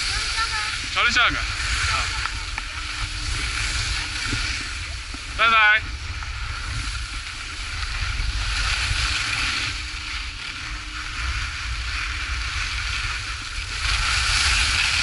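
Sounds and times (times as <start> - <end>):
skis scraping over snow: 0.0 - 15.0
wind rumbling on microphone: 0.0 - 15.0.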